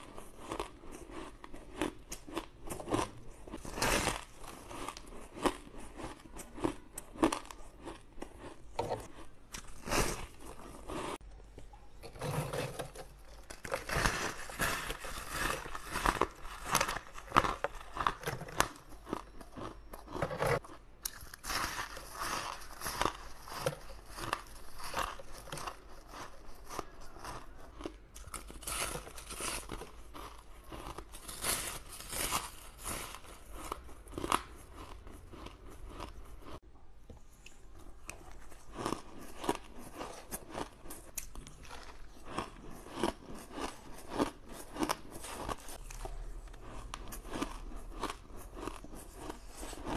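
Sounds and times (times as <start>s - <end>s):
crunching ice chewing: 0.0s - 11.3s, 12.0s - 36.6s, 37.8s - 49.9s.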